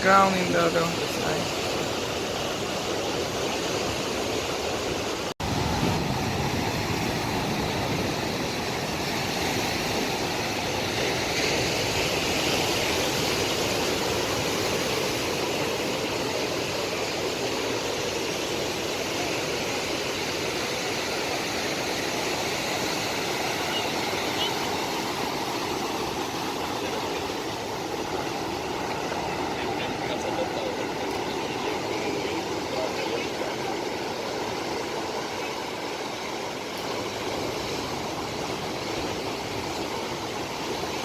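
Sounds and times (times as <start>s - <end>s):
sea surf washing on beach: 0.0s - 41.0s.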